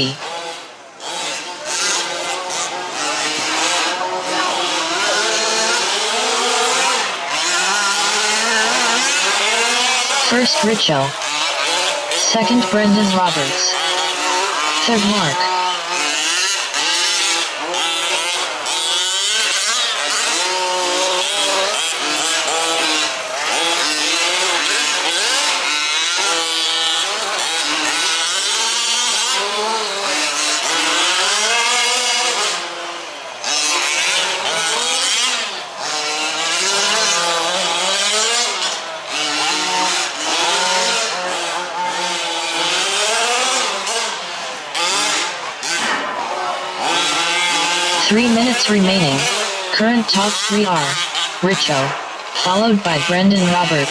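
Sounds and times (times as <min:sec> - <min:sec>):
rc truck engines revving: 0:00.0 - 0:53.9.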